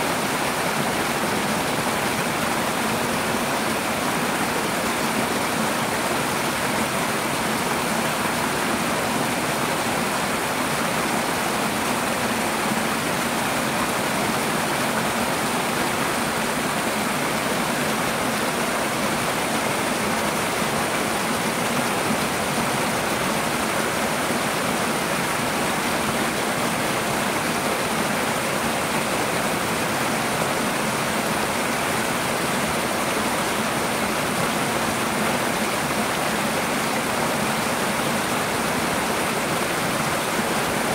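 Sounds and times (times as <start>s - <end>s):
waterfall pouring over rocks: 0.0s - 40.9s.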